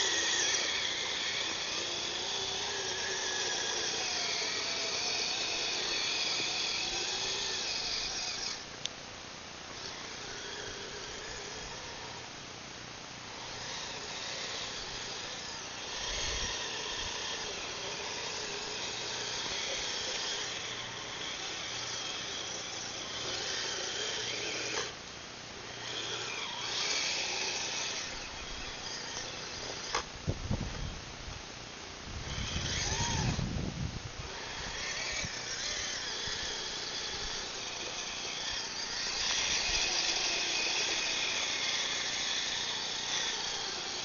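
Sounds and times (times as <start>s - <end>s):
electric motor whining: 0.0s - 8.9s, 9.6s - 12.4s, 13.2s - 31.1s, 32.1s - 44.0s.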